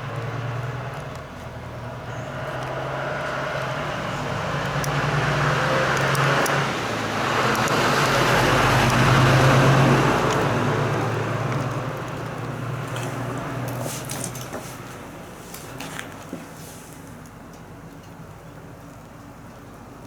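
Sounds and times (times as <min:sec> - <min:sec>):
vehicle passing: 0:00.0 - 0:16.7
wood fire crackling: 0:00.0 - 0:20.0.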